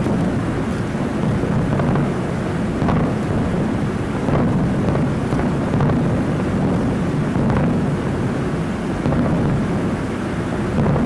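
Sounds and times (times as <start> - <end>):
fireworks booming rumble: 0.0 - 11.0
sharp firework report: 0.0 - 11.0.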